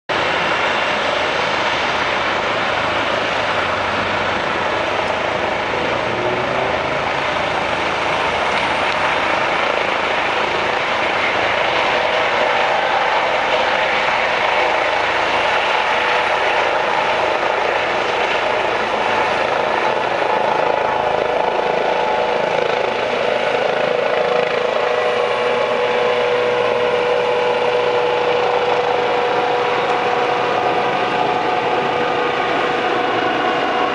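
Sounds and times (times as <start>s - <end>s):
helicopter rotor and turbine noise: 0.1s - 33.9s.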